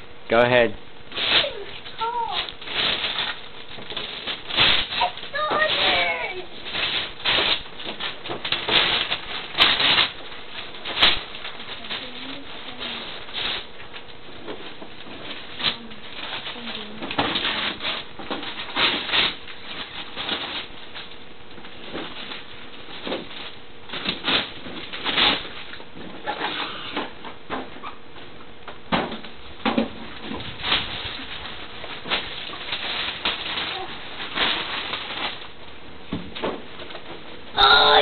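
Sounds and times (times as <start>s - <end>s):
wrapping paper tearing and crumpling: 1.1s - 27.2s, 30.1s - 36.4s, 37.6s - 38.0s.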